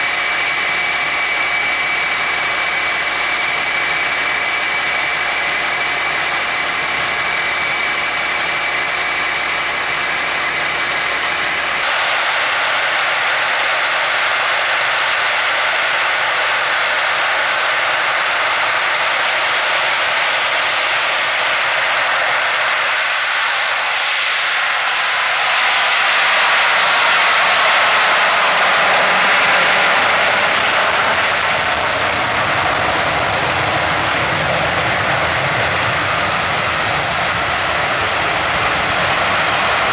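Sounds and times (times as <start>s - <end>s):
jet engines whining and rushing: 0.0s - 39.9s.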